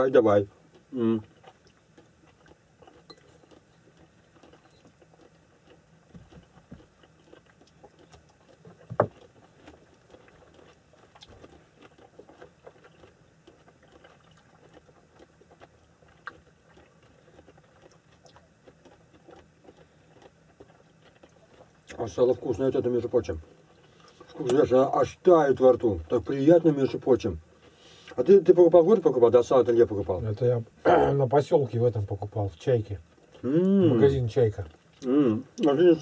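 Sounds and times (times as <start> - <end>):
clicks and rustles of eating: 0.1 - 30.1, 31.6 - 33.5, 34.2 - 35.8.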